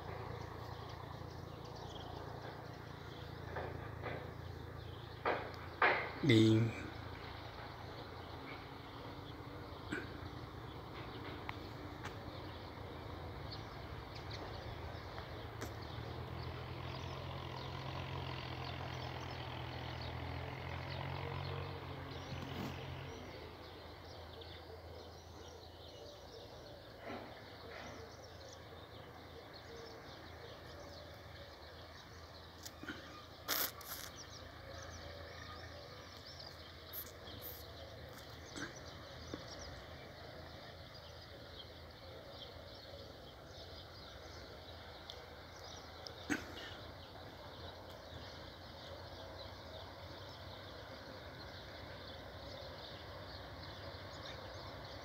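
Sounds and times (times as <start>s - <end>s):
distant engine hum: 0.0s - 55.0s.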